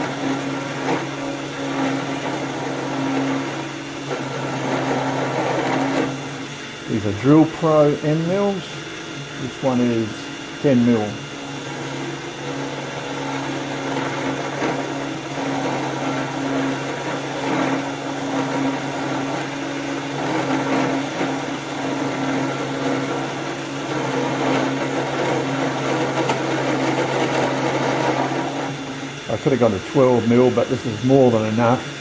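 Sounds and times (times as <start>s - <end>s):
end mill cutting metal: 0.0s - 32.0s
motor hum: 0.0s - 32.0s.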